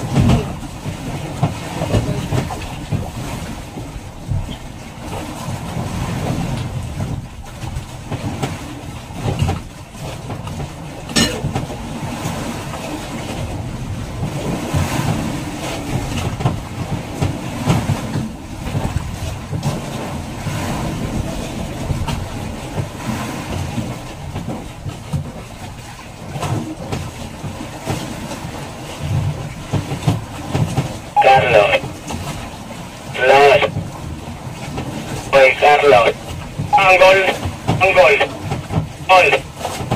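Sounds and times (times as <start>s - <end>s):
boat low rumble: 0.0s - 39.9s.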